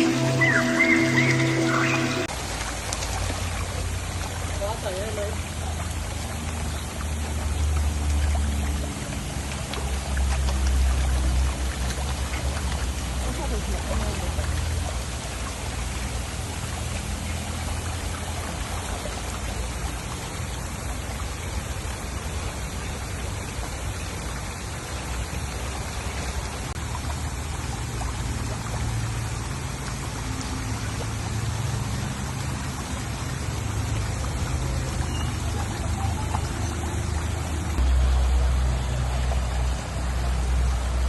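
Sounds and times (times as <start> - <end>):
pond water trickling: 0.0 - 41.0.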